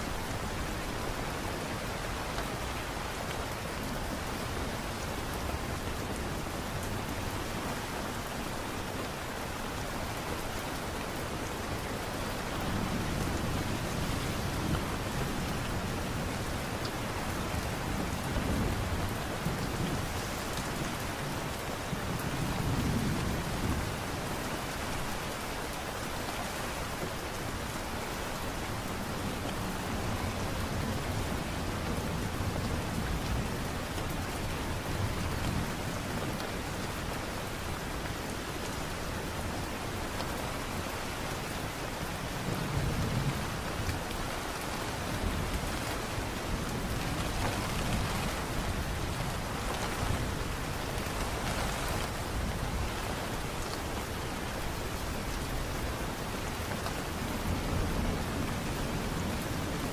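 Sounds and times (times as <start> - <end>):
steady light rain: 0.0 - 59.9.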